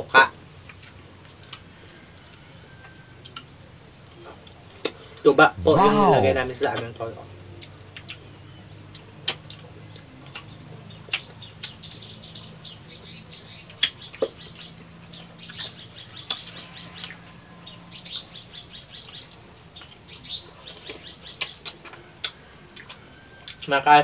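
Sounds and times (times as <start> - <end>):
small birds trilling: 0.0 - 24.0.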